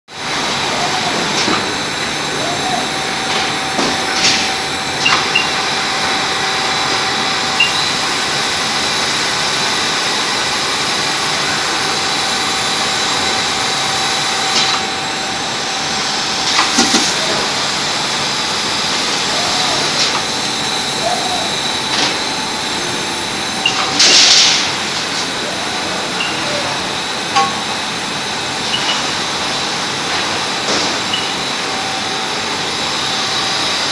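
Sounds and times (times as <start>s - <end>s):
machine hiss: 0.2s - 33.9s.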